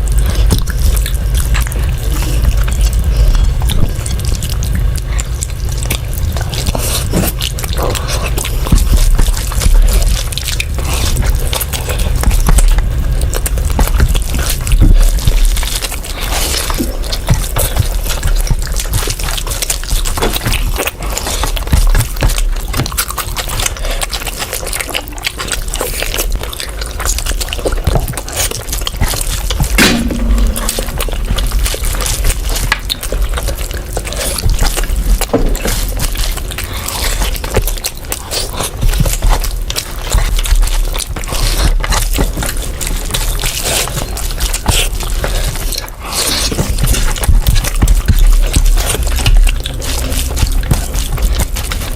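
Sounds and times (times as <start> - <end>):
low steady hum: 0.0 - 51.9
person chewing food wetly: 0.0 - 51.9.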